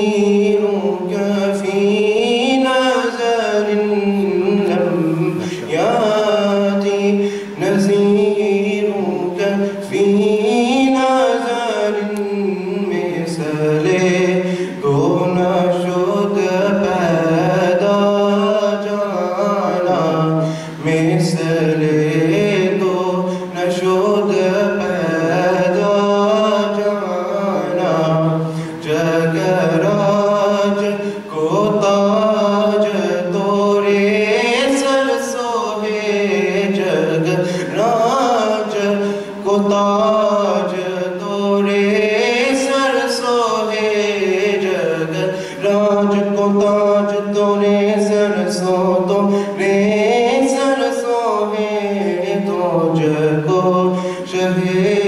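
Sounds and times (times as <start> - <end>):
man chanting recitation: 0.0 - 55.0.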